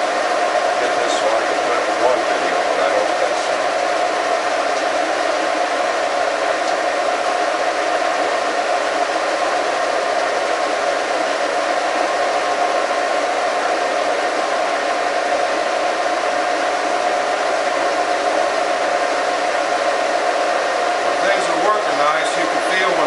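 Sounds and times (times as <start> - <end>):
boring mill machine hum: 0.0 - 23.0.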